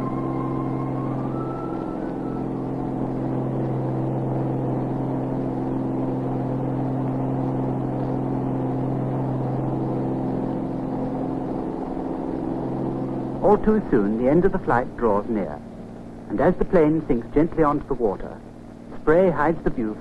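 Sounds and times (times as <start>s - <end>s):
piston aircraft engines droning: 0.0s - 20.0s.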